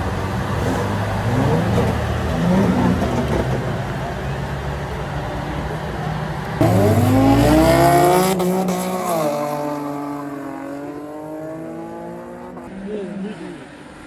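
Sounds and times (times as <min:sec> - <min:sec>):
drag race car engine revving: 0:00.0 - 0:05.0, 0:05.7 - 0:12.7.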